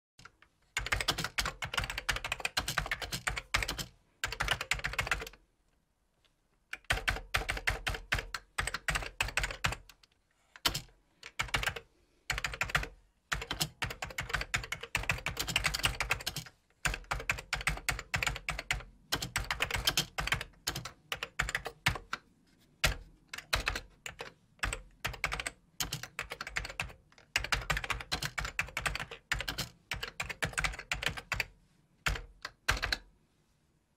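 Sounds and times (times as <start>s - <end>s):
typing on keyboard: 0.2s - 5.4s, 6.7s - 22.2s, 22.8s - 33.1s.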